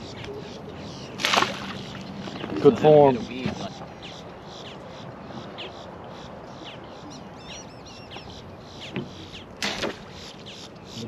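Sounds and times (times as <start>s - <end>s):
birds chirping and warbling: 0.0s - 11.0s.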